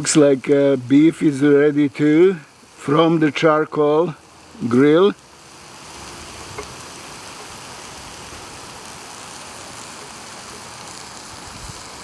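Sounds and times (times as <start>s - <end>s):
meat sizzling on charcoal grill: 0.0s - 12.0s.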